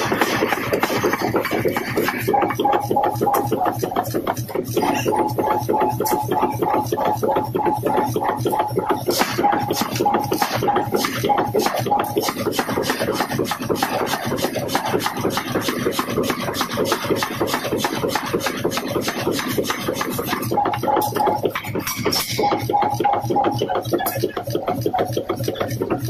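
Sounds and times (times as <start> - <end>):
power hammer striking steel: 0.0 - 26.0.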